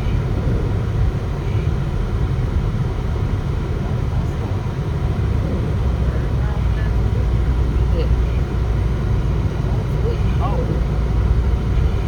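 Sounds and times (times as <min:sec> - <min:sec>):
car driving on snow: 0:00.0 - 0:12.0.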